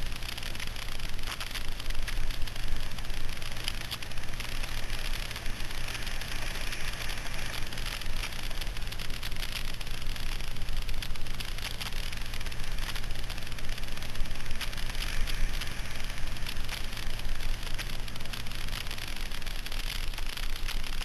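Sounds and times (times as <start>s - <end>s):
camera rattling: 0.0s - 21.0s
moped engine running: 0.0s - 21.0s
tyres crackling on gravel: 0.0s - 21.0s.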